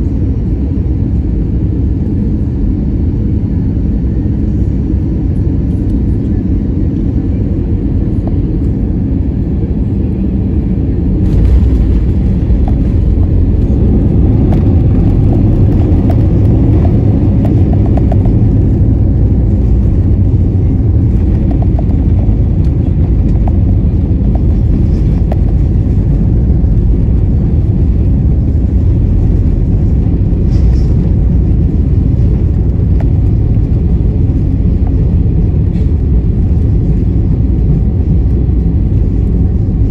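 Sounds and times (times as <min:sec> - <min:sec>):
engine and airflow rush: 0:00.0 - 0:39.9
runway rumble: 0:00.0 - 0:39.9.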